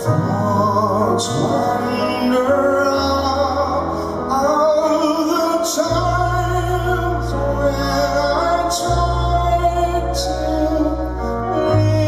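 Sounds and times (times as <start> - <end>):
male vocal group singing: 0.0 - 12.0.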